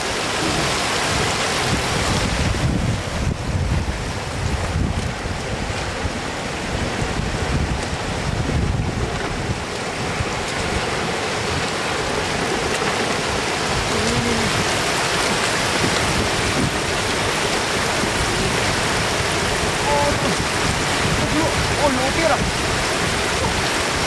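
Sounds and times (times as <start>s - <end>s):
floodwater rushing across road: 0.0s - 24.0s.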